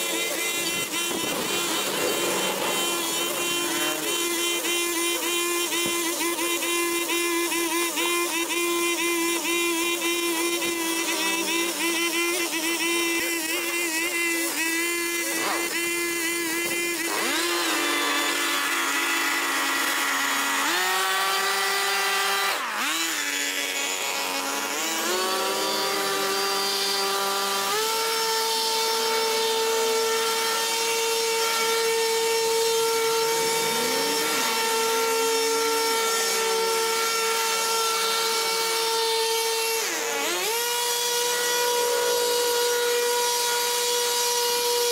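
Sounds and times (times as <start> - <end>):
brush cutter cutting grass: 0.0 - 44.9.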